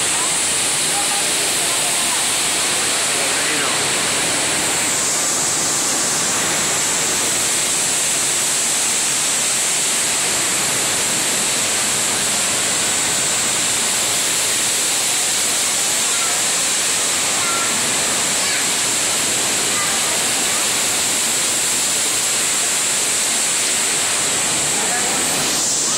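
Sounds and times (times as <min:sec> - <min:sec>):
fountain water splashing: 0:00.0 - 0:25.9.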